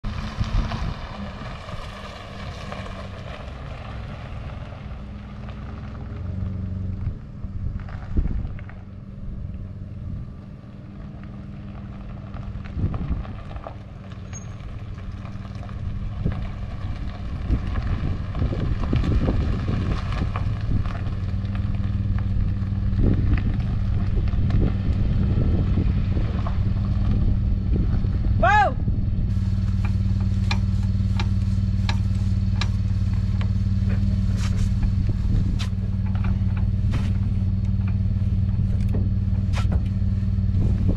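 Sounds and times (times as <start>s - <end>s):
pickup truck engine running: 0.0s - 40.9s
tyres crunching on gravel: 0.0s - 40.9s.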